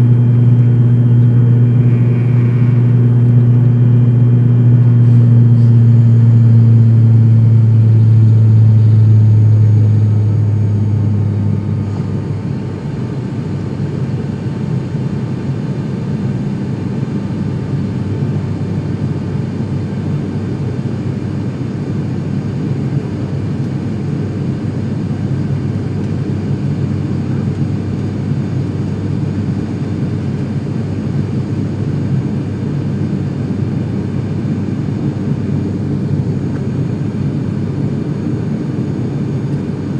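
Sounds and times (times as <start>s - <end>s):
propeller engine drone in cabin: 0.0s - 39.9s.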